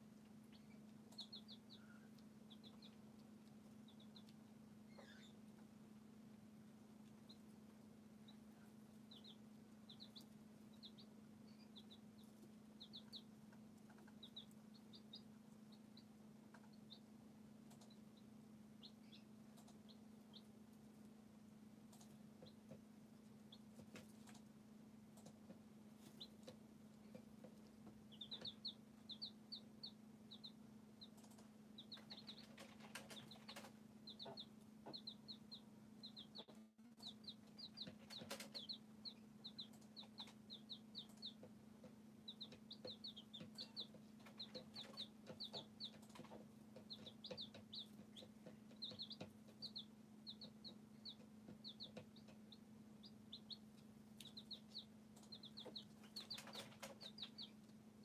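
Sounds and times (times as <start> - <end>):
baby chicks peeping: 0.0 - 58.0
low steady hum: 0.0 - 58.0.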